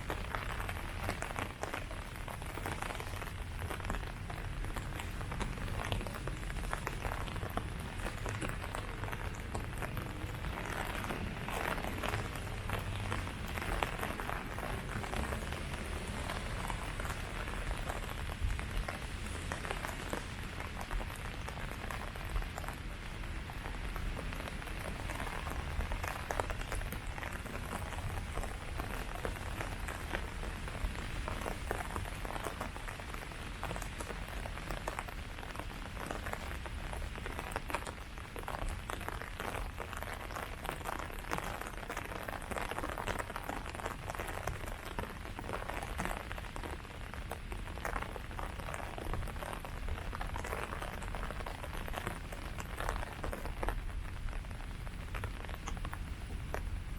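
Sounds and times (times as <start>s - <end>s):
rain pattering on leaves: 0.0s - 56.9s.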